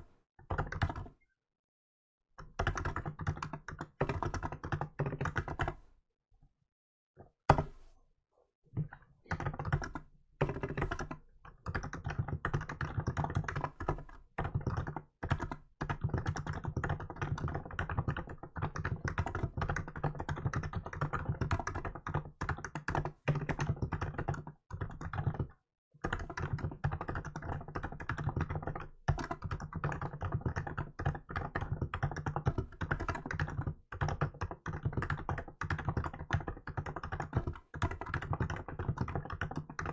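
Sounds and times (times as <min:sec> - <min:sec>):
typing on a keyboard: 0:00.5 - 0:01.2, 0:02.4 - 0:05.8, 0:08.8 - 0:39.9.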